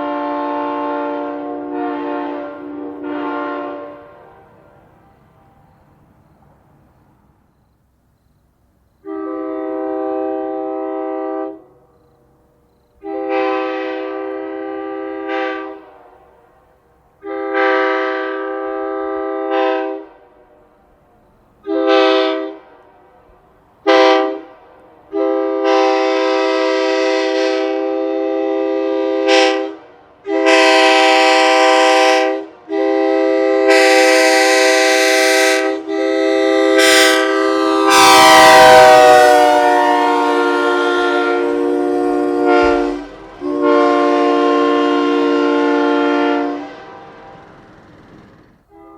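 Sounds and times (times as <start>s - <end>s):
train horn blasts: 0.0s - 5.8s, 9.0s - 11.9s, 13.0s - 16.6s, 17.2s - 20.8s, 21.6s - 47.7s, 48.7s - 48.9s.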